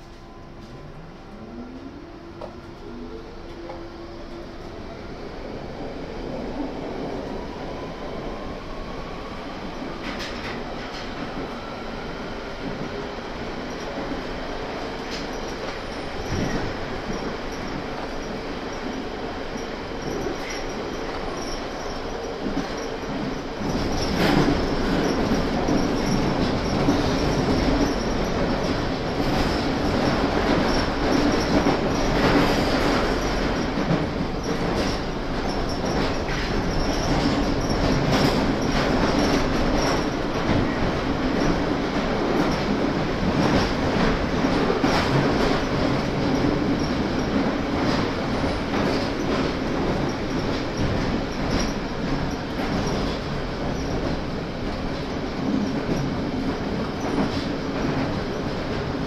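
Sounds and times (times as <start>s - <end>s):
train rumble and roar in tunnel: 0.0s - 59.0s.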